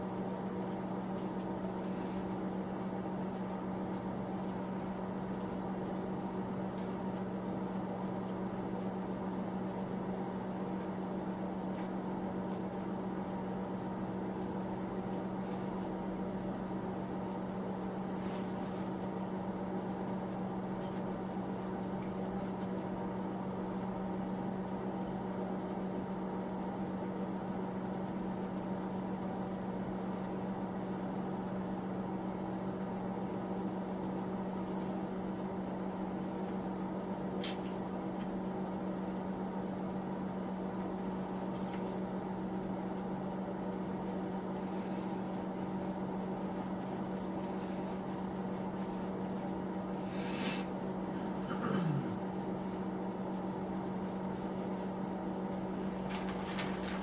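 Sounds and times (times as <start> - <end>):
electric space heater humming: 0.0 - 57.0.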